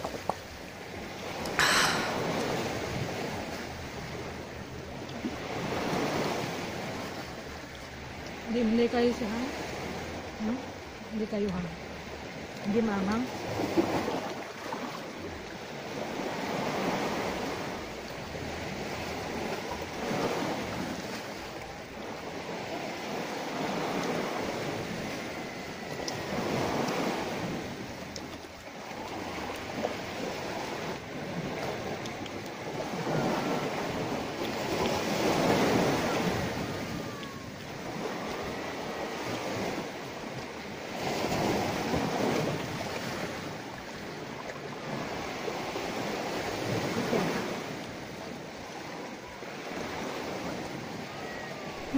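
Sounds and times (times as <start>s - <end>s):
sea waves washing onto shore: 0.0s - 51.9s.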